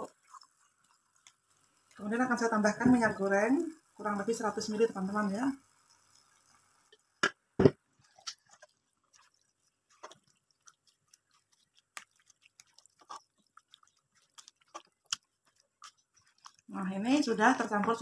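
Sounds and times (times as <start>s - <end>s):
wet squelches of chicken stirring: 0.0s - 2.6s, 3.2s - 7.2s, 7.8s - 18.0s.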